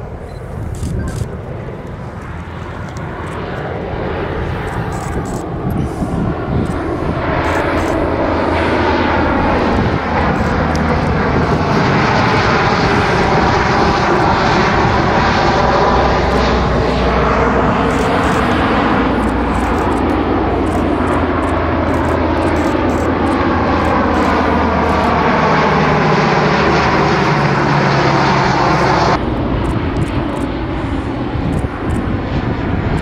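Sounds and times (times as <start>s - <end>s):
turboprop plane droning overhead: 0.0s - 33.0s.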